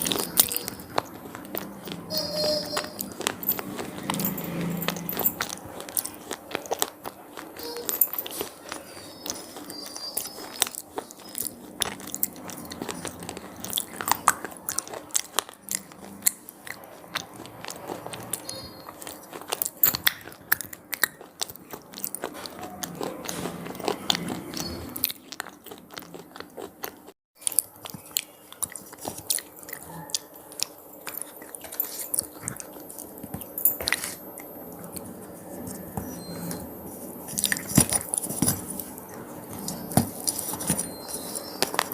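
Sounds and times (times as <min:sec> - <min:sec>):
crunching and chewing snacks: 0:00.0 - 0:41.9.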